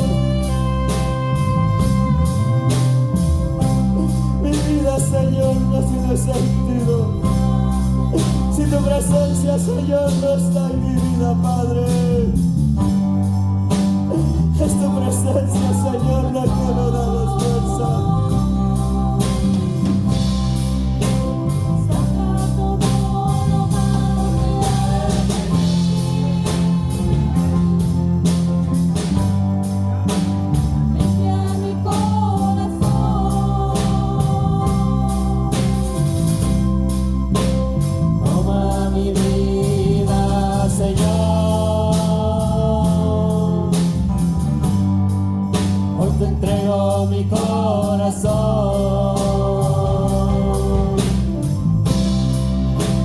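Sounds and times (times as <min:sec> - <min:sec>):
sustained singing: 0:00.0 - 0:12.0, 0:14.1 - 0:28.4, 0:31.0 - 0:37.2, 0:38.2 - 0:44.3, 0:46.0 - 0:51.7
heavy bass line: 0:00.0 - 0:53.0
steady drum beat: 0:00.0 - 0:53.0
worship band playing: 0:00.0 - 0:53.0.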